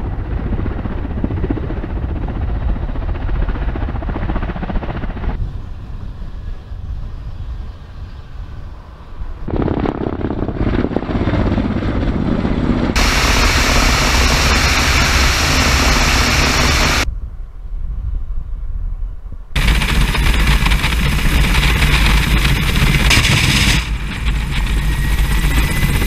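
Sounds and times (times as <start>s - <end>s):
helicopter rotor and turbine rumble: 0.0s - 17.1s, 19.6s - 26.0s
wind rushing over microphone: 0.0s - 26.0s.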